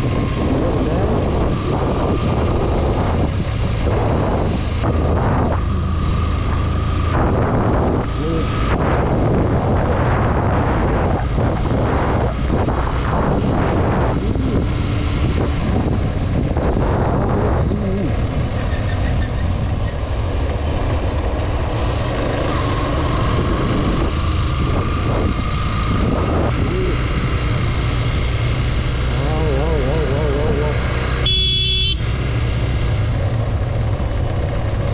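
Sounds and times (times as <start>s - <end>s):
wind buffeting microphone: 0.0s - 19.9s, 20.5s - 29.8s
motorcycle engine running: 0.0s - 34.9s.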